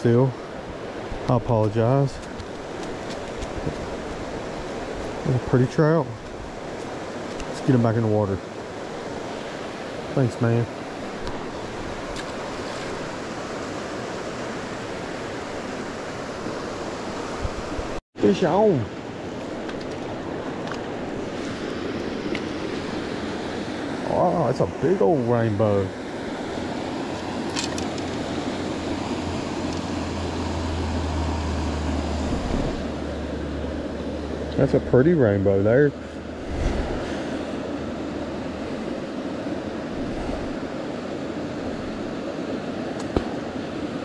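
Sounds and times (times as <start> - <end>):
creek water rushing over rocks: 0.4 - 44.0.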